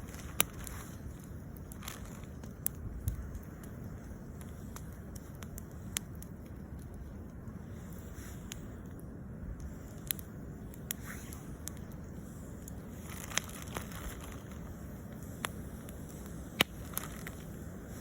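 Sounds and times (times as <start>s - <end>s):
campfire crackling: 0.0s - 18.0s
steady low rumble: 0.0s - 18.0s.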